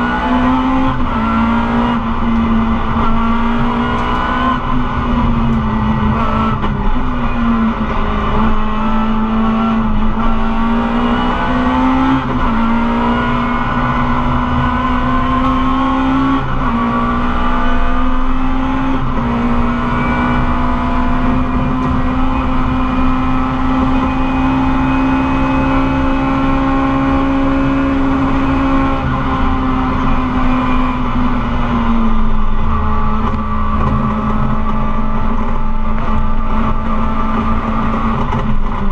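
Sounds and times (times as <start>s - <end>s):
rally car engine running hard: 0.0s - 38.9s.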